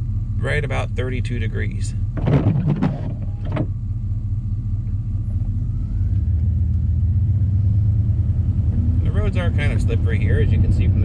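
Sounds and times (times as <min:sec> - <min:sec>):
pickup truck engine and road rumble: 0:00.0 - 0:11.0.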